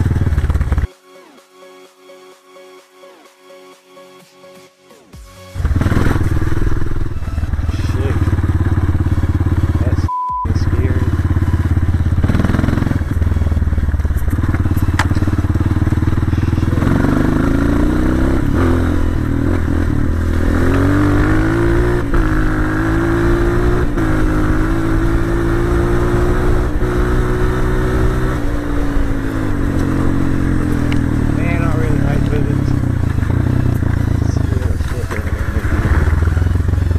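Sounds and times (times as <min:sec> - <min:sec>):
dirt bike engine running: 0:00.0 - 0:01.0, 0:05.5 - 0:36.9.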